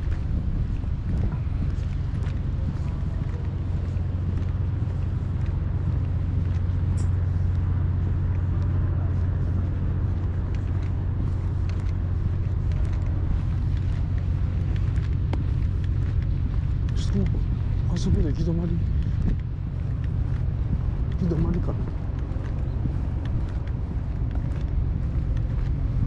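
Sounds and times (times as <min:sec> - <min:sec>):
engine running low rumble: 0:00.0 - 0:26.0.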